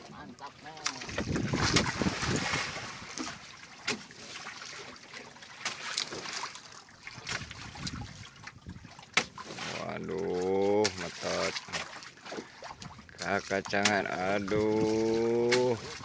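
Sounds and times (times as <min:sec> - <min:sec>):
water splashing against boat hull: 0:00.0 - 0:16.0.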